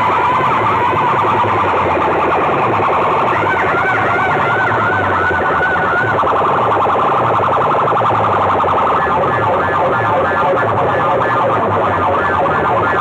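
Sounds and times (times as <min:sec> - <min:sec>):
repeating low beat: 0:00.0 - 0:13.0
warbling siren-like tone: 0:00.0 - 0:13.0.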